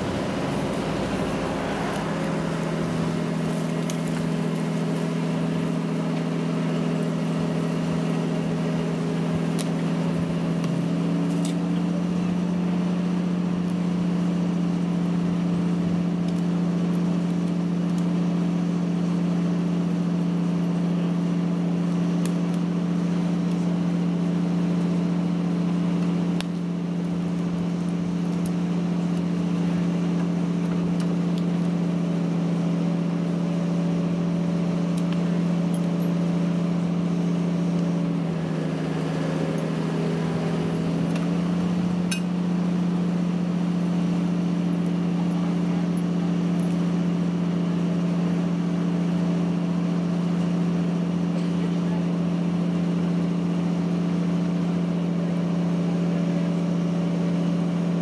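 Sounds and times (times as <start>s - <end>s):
crane engine droning: 0.0s - 58.0s.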